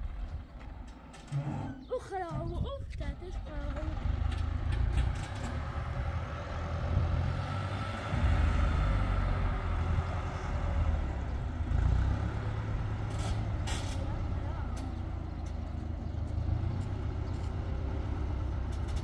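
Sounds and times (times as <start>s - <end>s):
farm vehicle engine rumbling: 0.0s - 19.0s.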